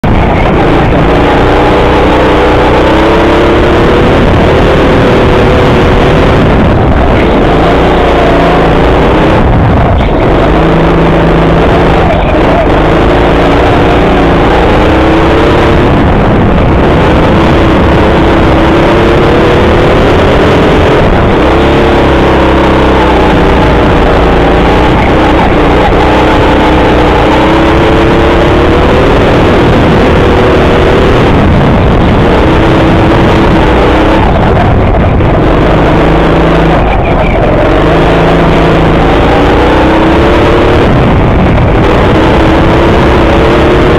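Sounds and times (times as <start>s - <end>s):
go-kart motor revving: 0.0s - 43.9s
heavy rumble: 0.0s - 43.9s.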